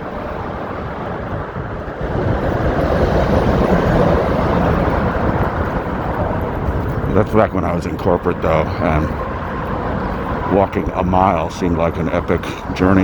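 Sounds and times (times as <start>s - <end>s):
rush of passing vehicles: 0.0s - 13.0s.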